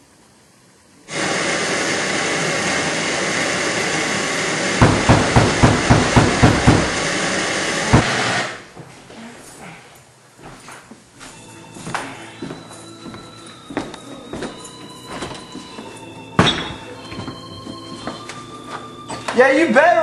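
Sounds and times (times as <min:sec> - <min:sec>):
television static hiss: 0:00.0 - 0:17.5.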